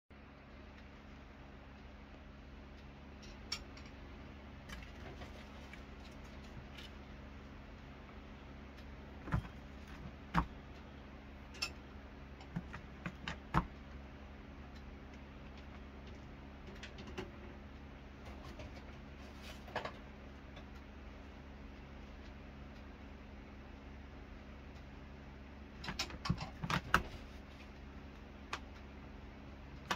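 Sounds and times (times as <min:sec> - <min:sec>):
steady low hum: 0:00.1 - 0:29.9.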